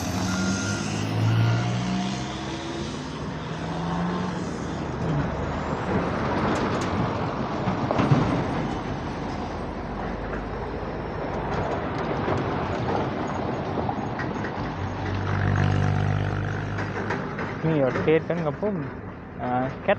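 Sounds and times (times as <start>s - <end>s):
excavator engine rumble: 0.0s - 19.9s.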